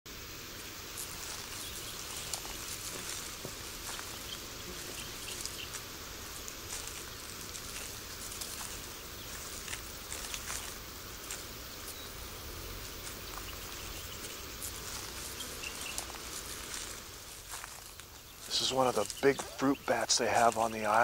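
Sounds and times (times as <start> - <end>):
steady hiss: 0.1 - 21.0.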